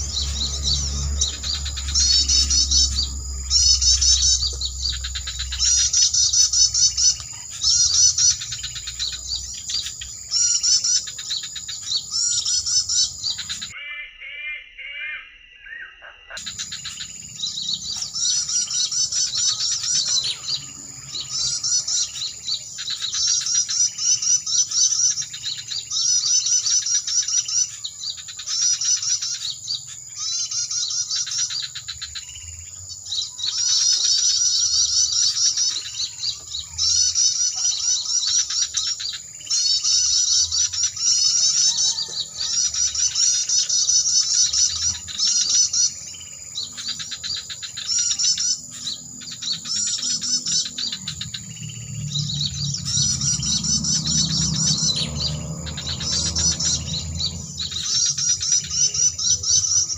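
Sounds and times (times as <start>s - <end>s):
birds chirping trills: 0.0s - 59.9s.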